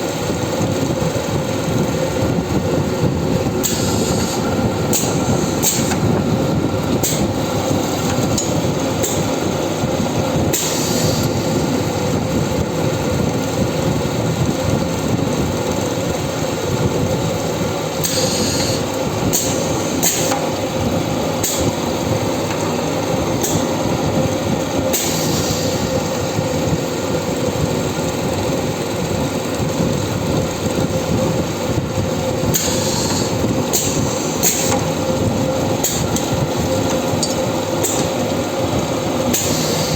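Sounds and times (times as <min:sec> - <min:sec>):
drilling machine droning: 0:00.0 - 0:39.9.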